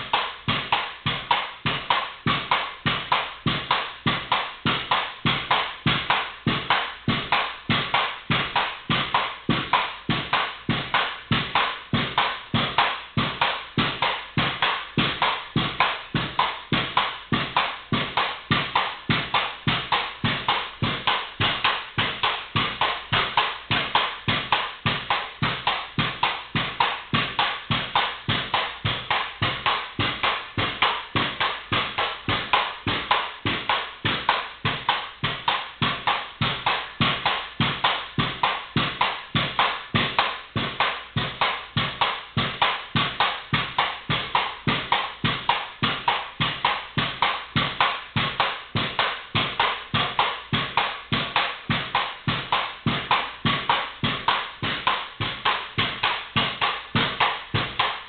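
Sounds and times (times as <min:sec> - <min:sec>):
pogo stick knocking on concrete: 0:00.0 - 0:58.0.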